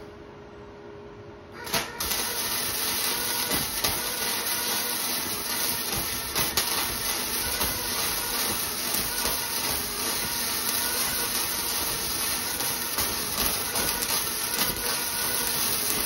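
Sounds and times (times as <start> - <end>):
welder arc crackling and popping: 1.6 - 16.0.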